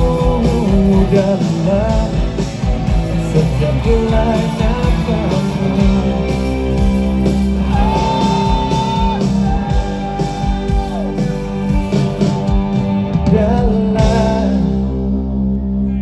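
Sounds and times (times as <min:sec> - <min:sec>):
live pop-rock band playing: 0:00.0 - 0:15.5.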